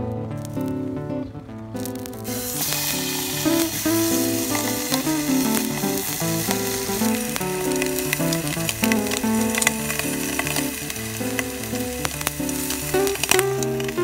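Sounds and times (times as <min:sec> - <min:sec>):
background music: 0:00.0 - 0:14.0
bacon sizzling in a pan: 0:01.8 - 0:14.0.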